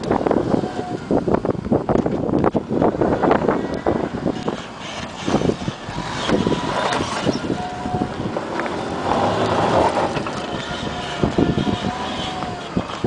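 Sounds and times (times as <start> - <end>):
gravel crunching under tyres: 0.0 - 13.0
truck engine working: 0.0 - 13.0
wind buffeting microphone: 0.0 - 13.0.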